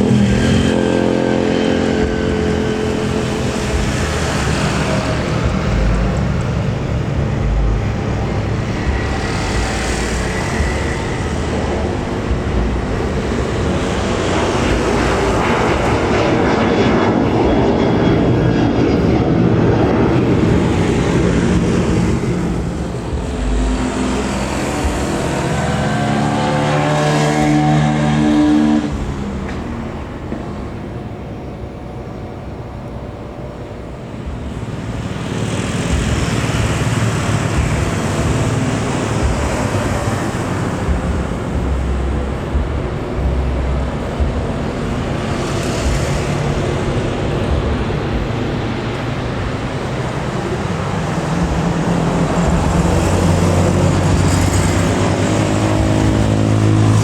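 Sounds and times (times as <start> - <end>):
engine roaring: 0.0 - 57.0.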